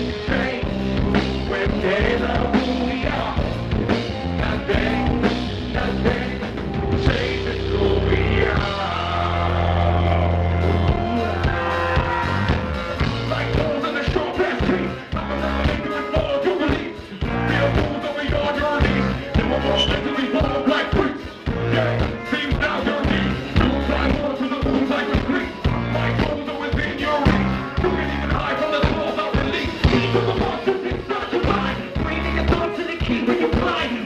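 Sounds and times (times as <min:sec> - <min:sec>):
drum kit beat: 0:00.0 - 0:34.0
guitar: 0:00.0 - 0:34.0
heavy bass line: 0:00.0 - 0:34.0.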